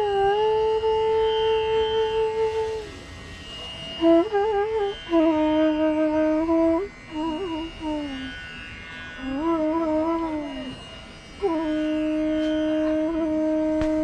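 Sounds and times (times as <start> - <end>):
indian classical instrumental melody: 0.0 - 14.0.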